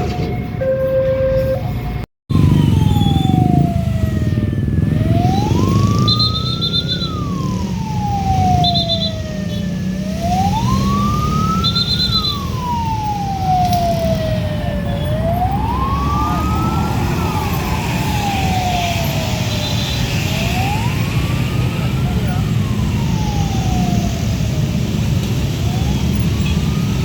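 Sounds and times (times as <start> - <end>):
heavy truck engines rumbling: 0.0 - 27.0
wailing siren: 0.0 - 27.0.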